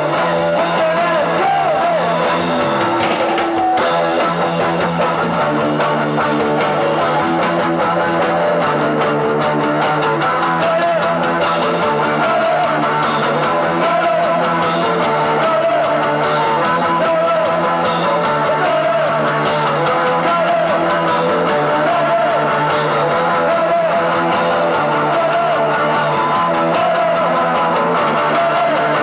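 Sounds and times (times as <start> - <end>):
person singing: 0.0 - 4.4, 9.5 - 29.0
punk rock band playing live: 0.0 - 29.0.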